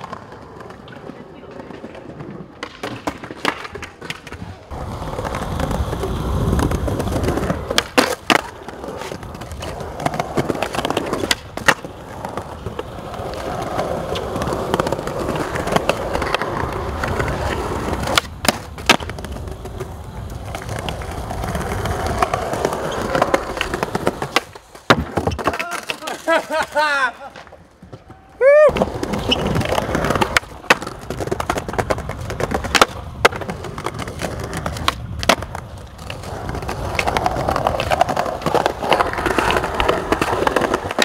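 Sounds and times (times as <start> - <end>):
skateboard clacking on ground: 0.0 - 41.0
skateboard wheels rolling on concrete: 0.0 - 41.0.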